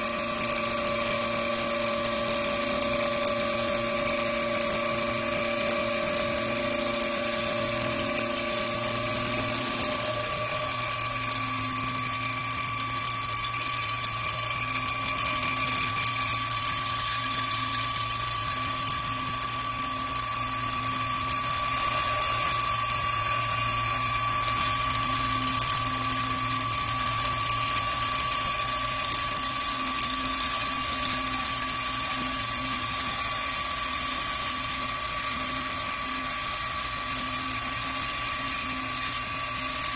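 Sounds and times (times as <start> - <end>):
lathe high-pitched whine: 0.0 - 39.9
lower machine tone: 0.0 - 39.9.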